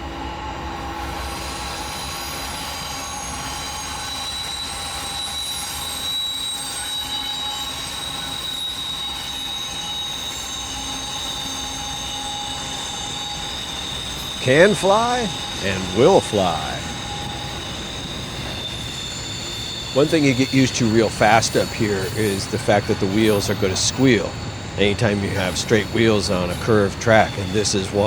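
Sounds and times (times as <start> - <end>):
rumble of rolling train cars: 0.0 - 28.0
train wheels squealing: 0.0 - 28.0.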